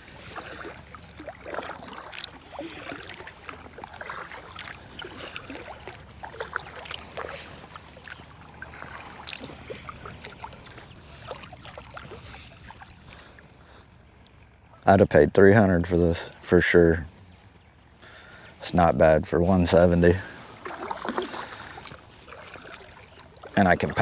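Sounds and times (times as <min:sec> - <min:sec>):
paddle splashing water: 0:00.0 - 0:14.8, 0:19.2 - 0:24.0.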